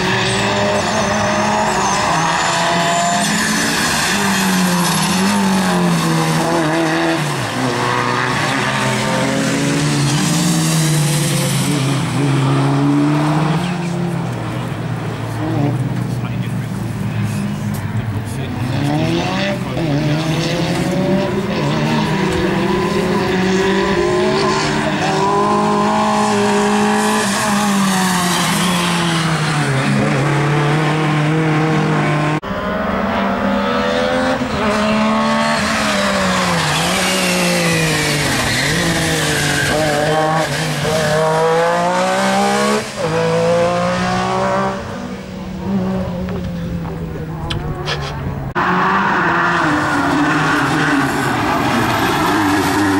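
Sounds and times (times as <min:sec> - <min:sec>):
rally car engine at full throttle: 0:00.0 - 0:52.9.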